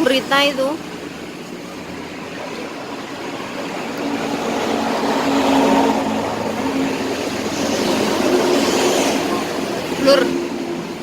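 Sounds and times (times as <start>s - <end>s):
vehicle engine passing: 0.8s - 11.0s.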